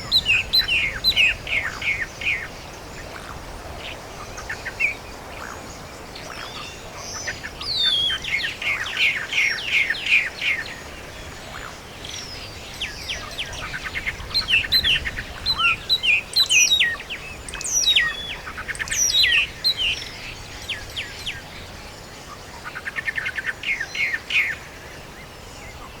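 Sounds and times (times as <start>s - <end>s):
songbirds trilling and chirping: 0.0s - 26.0s.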